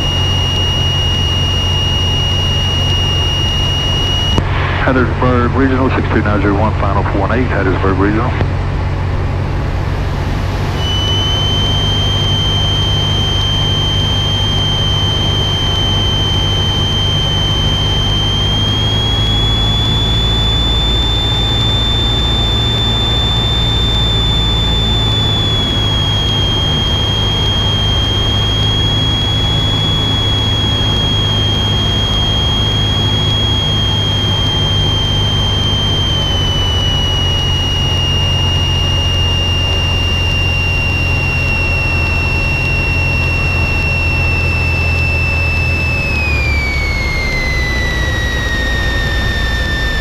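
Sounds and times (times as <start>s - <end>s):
high-pitched whistling tone: 0.0s - 4.4s, 9.5s - 50.0s
aircraft engine and propeller drone: 0.0s - 50.0s.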